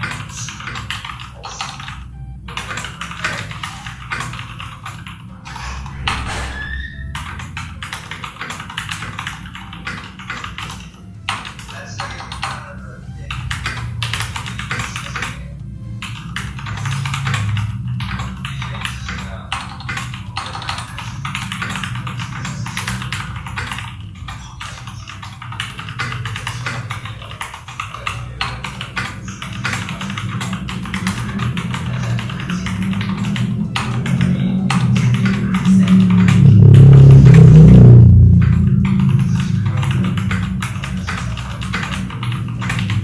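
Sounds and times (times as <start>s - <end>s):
mechanical keyboard typing: 0.0s - 5.6s, 6.2s - 35.8s, 39.5s - 43.0s
background music: 0.0s - 43.0s.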